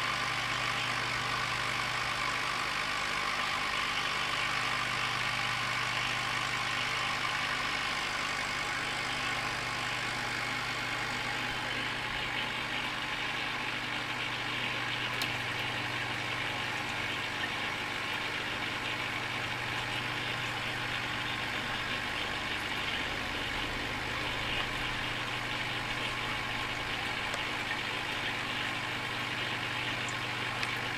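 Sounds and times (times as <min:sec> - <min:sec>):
air pump humming: 0:00.0 - 0:30.9.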